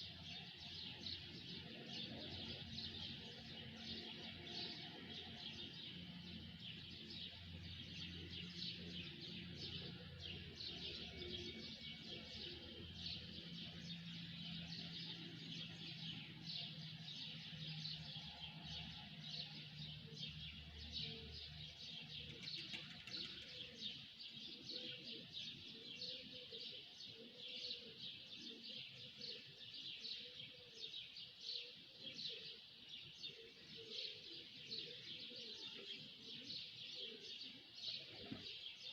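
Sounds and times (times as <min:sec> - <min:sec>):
birds chirping chorus: 0:00.0 - 0:38.9.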